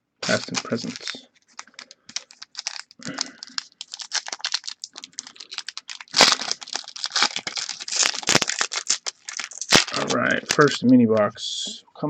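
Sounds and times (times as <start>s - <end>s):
foil wrapper crinkling: 0.2s - 11.3s.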